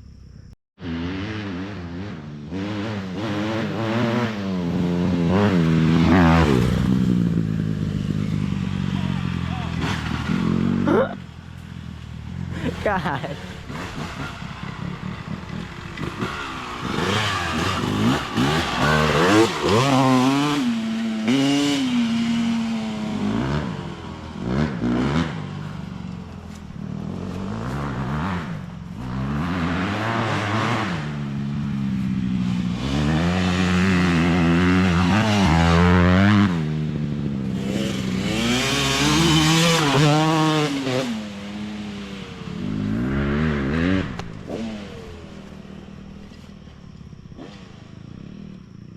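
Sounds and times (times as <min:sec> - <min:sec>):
dirt bike engine revving: 0:00.8 - 0:48.9.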